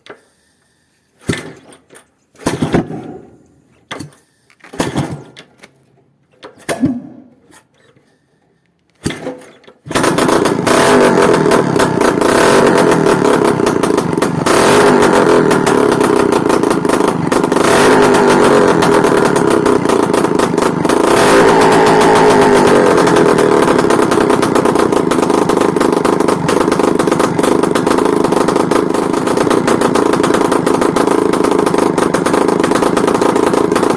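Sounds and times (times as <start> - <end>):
two-stroke motorcycle engine starting: 1.1 - 5.6, 8.9 - 33.9.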